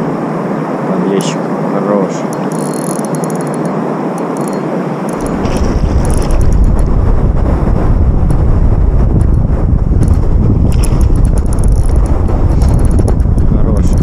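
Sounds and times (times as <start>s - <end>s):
wind buffeting microphone: 2.2s - 14.0s.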